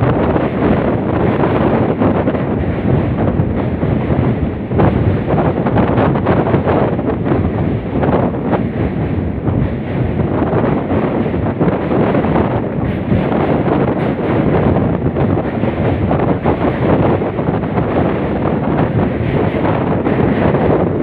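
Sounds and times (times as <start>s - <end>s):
passenger train running: 0.0s - 21.0s
wind buffeting microphone: 0.0s - 21.0s.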